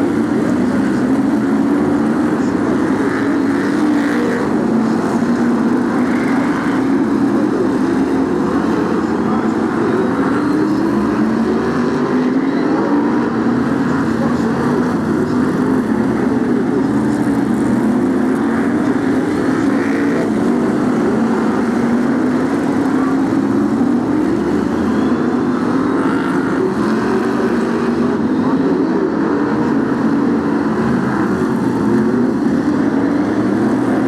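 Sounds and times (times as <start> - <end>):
race car engines running hard: 0.0 - 34.0.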